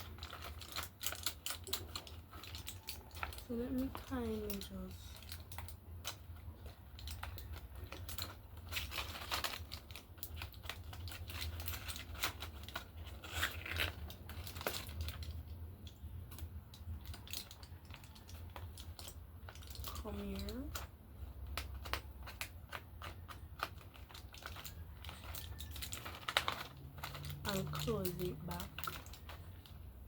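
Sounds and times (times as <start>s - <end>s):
objects being handled and moved: 0.0s - 30.0s.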